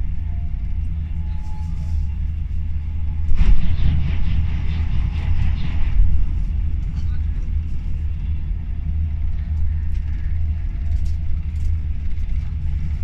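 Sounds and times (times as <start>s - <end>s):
passing train rush: 0.0s - 13.0s
train interior rumble: 0.0s - 13.0s.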